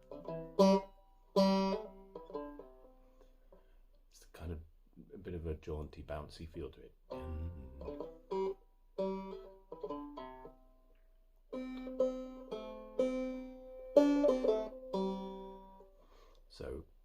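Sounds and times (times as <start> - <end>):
banjo picked slowly: 0.0 - 6.4, 7.0 - 16.8.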